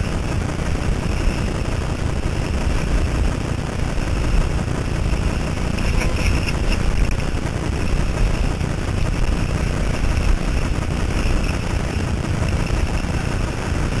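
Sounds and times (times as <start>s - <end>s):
skis sliding over snow: 0.0s - 14.0s
wind buffeting microphone: 0.0s - 14.0s.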